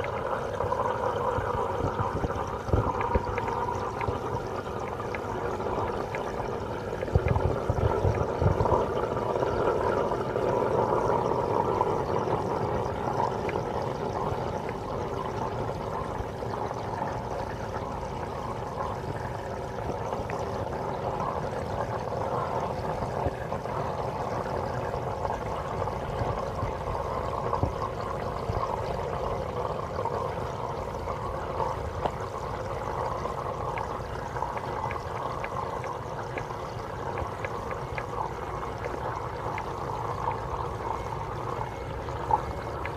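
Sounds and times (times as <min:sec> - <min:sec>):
aquarium water trickling: 0:00.0 - 0:42.9.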